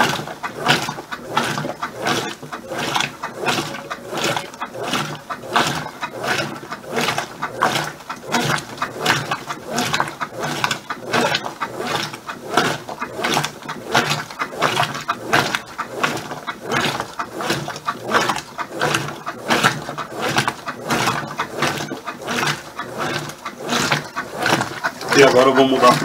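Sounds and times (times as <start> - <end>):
washing machine agitating: 0.0 - 26.0.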